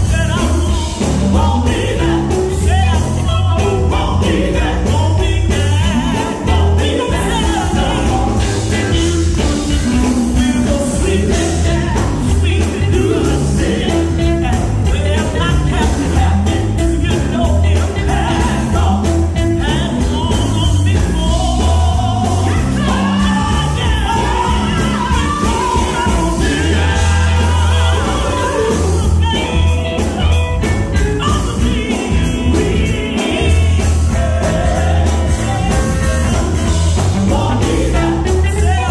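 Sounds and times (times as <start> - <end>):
amplified band playing: 0.0 - 38.9
women singing gospel: 0.3 - 30.2, 31.2 - 38.9.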